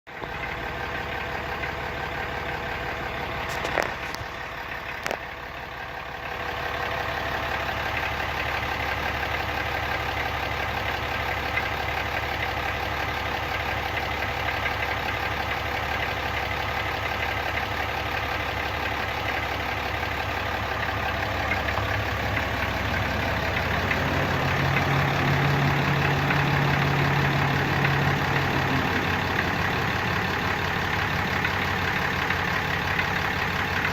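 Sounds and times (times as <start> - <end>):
diesel engine idling: 0.1 - 33.9
engine rattle: 0.1 - 33.9.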